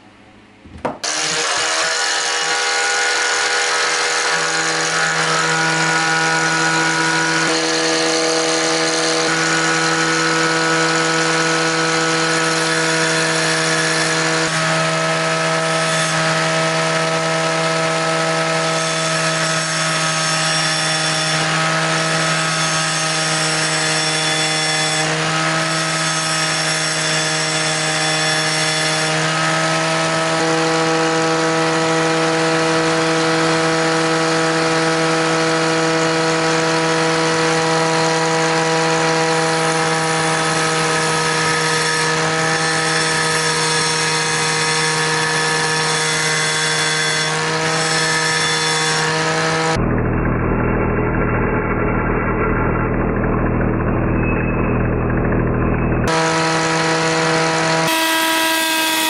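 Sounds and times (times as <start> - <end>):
angle grinder whining: 0.9 - 59.0
metal bit grinding on disc: 1.0 - 49.8, 56.1 - 59.0.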